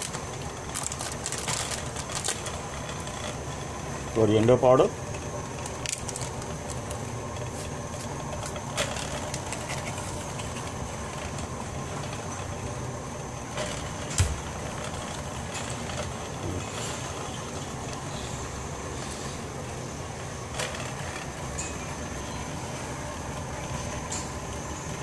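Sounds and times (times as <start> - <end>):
low rumble and hiss: 0.0 - 25.0.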